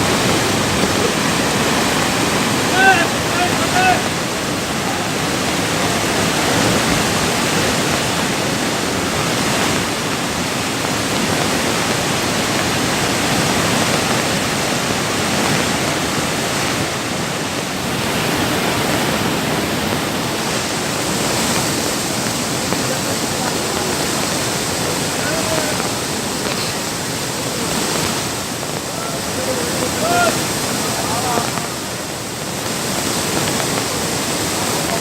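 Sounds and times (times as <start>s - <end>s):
rush of flowing water: 0.0s - 35.0s.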